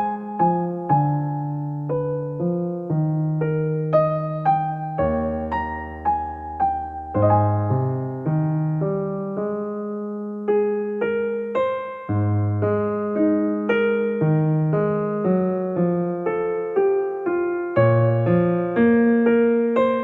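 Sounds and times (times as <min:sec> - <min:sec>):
electric piano melody: 0:00.0 - 0:20.0.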